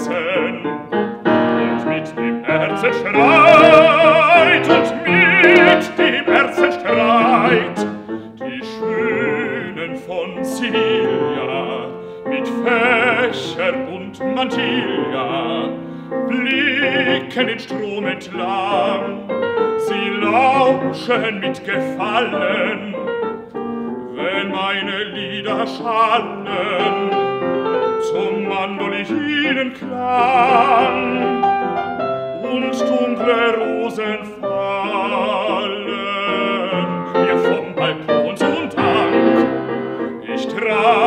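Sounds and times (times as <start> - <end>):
baritone operatic singing: 0.0 - 41.0
grand piano: 0.0 - 41.0.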